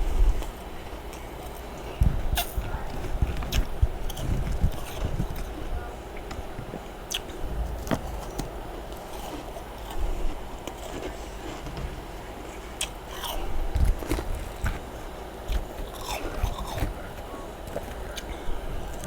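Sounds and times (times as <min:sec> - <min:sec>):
frost being chewed crunching: 0:00.3 - 0:19.0.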